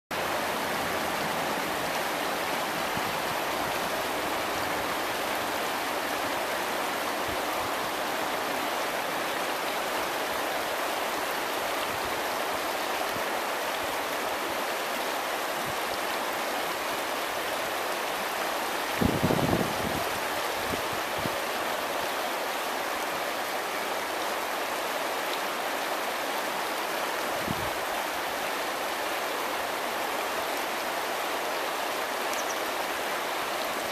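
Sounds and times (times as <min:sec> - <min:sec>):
river rushing over stones: 0:00.1 - 0:33.9.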